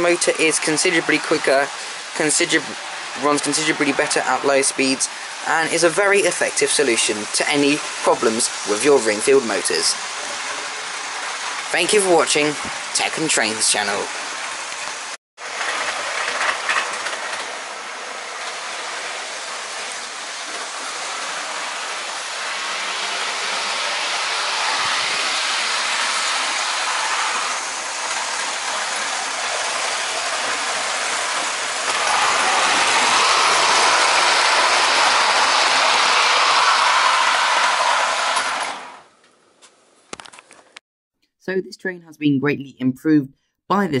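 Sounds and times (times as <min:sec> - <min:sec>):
model train whirring and rattling: 0:00.0 - 0:39.2.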